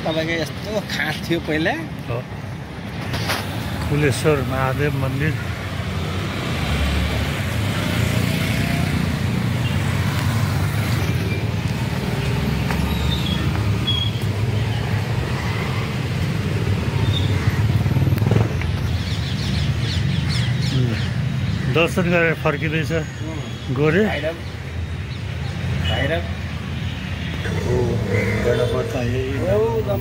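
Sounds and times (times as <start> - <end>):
motorcycles and street traffic: 0.0 - 30.0.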